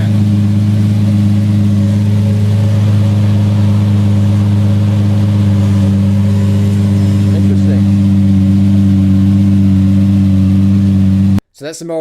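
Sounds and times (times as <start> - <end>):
car engine running steadily: 0.0 - 11.4.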